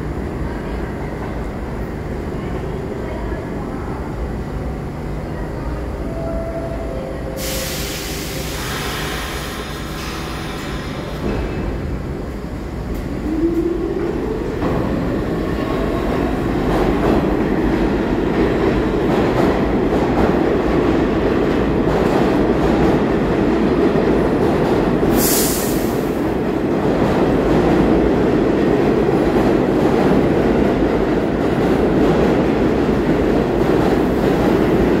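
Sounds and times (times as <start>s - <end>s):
subway train motors whining: 0.0s - 35.0s.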